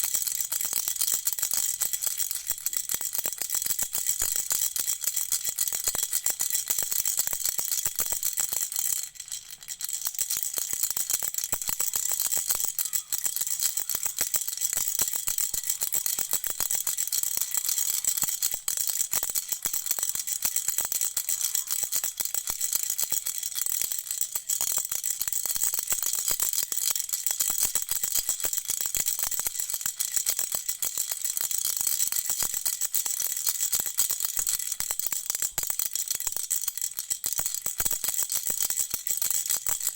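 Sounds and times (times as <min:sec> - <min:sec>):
rattle shaking: 0:00.0 - 0:39.9.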